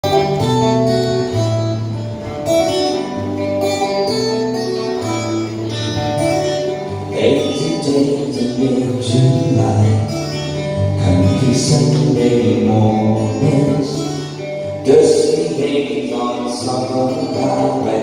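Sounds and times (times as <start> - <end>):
guitar strum: 0.0 - 18.0
picked guitar notes: 0.0 - 18.0.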